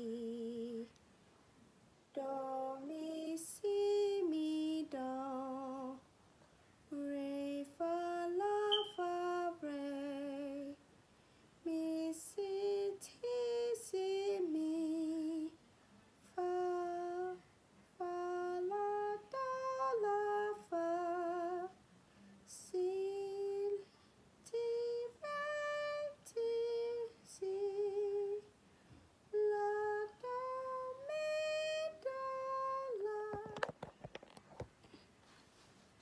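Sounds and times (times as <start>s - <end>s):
woman singing unaccompanied: 0.0s - 1.0s, 2.1s - 6.1s, 6.9s - 10.8s, 11.6s - 15.6s, 16.2s - 21.8s, 22.4s - 28.6s, 29.3s - 33.8s.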